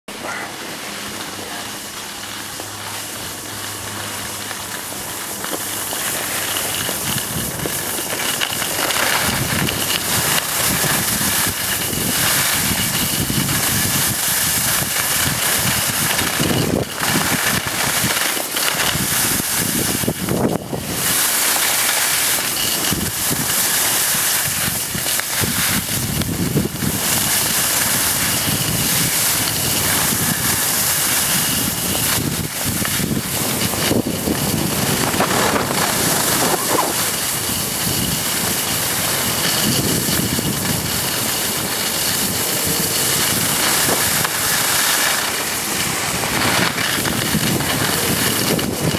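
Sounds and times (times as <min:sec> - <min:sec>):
skis sliding over snow: 0:00.1 - 0:48.9
wind buffeting microphone: 0:06.7 - 0:21.2, 0:22.7 - 0:48.9.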